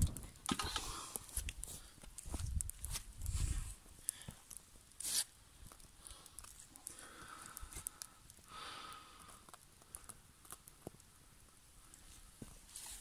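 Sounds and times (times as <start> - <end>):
wood fire crackling: 0.0 - 13.0
soft hiss: 0.1 - 13.0.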